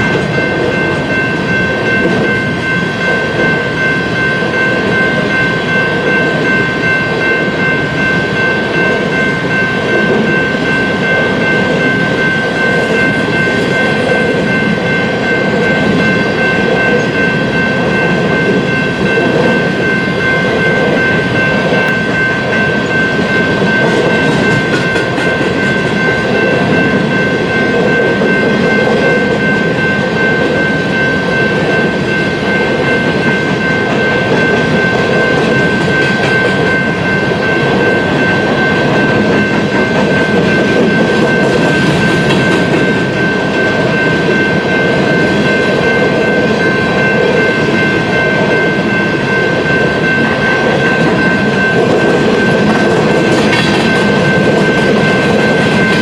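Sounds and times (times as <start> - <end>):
train cars rumbling and clattering: 0.0 - 56.0.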